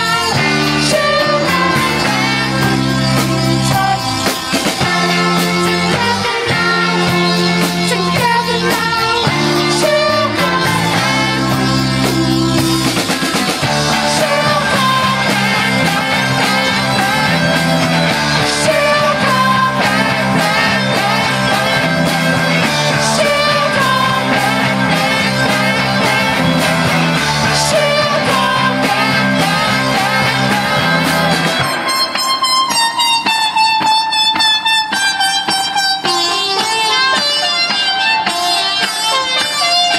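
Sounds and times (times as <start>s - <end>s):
drums: 0.0s - 39.9s
electric guitars: 0.0s - 39.9s
keyboard: 0.0s - 39.9s.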